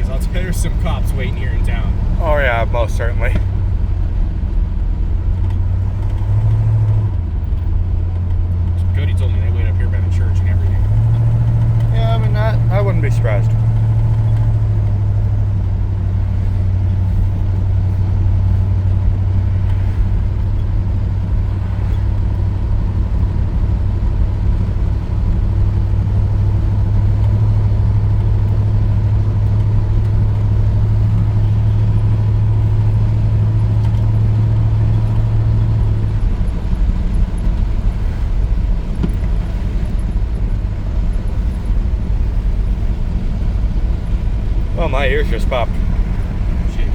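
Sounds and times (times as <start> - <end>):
truck engine and road noise: 0.0 - 46.9.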